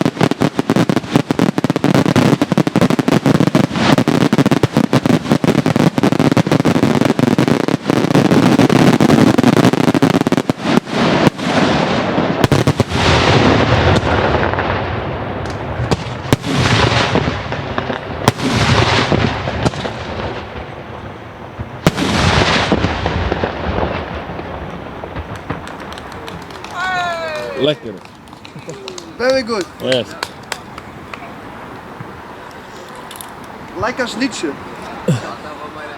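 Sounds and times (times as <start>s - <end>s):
fireworks bangs with echo: 0.0s - 31.3s.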